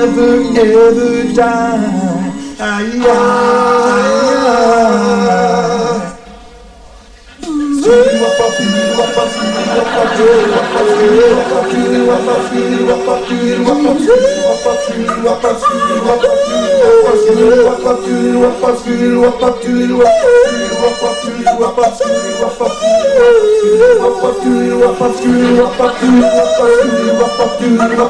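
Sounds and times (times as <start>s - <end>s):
lead voice yodeling: 0.0s - 28.0s
vocal group singing a cappella: 0.0s - 28.0s.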